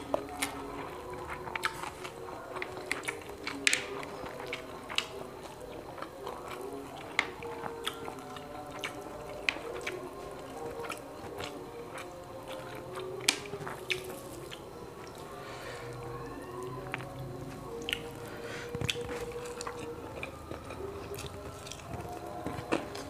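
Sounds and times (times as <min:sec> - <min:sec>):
person chewing: 0:00.0 - 0:23.0.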